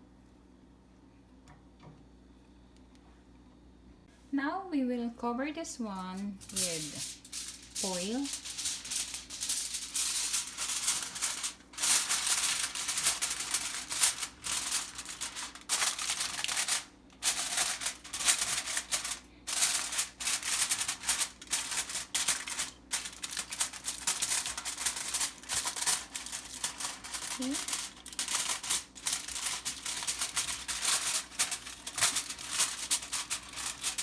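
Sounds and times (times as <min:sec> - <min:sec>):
aluminium foil crinkling: 0:05.8 - 0:34.0.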